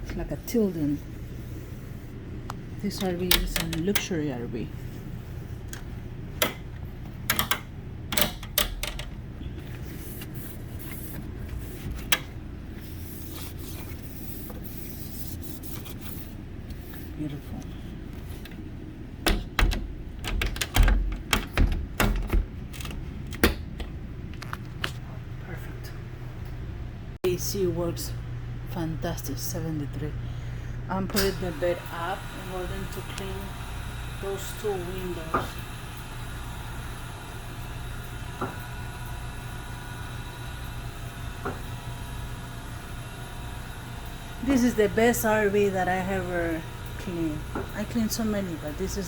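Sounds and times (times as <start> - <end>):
air conditioner humming: 0.0 - 49.0.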